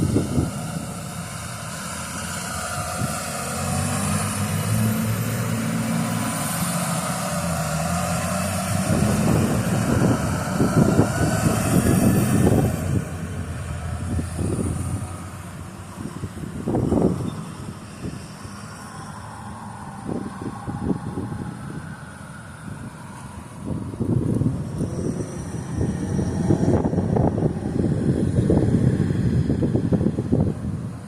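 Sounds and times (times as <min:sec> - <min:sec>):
engine running with low hum: 0:00.0 - 0:31.0
wind buffeting microphone: 0:00.0 - 0:31.0.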